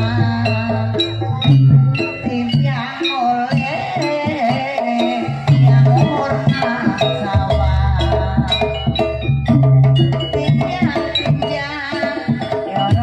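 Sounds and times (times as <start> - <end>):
drum-led percussion: 0.0 - 13.0
gamelan-style pitched instruments: 0.0 - 13.0
wavering melody line: 0.0 - 13.0.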